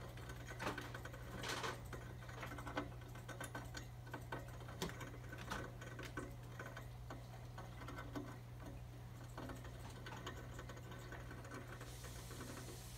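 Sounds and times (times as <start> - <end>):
mice clicking and scratching: 0.0 - 12.9.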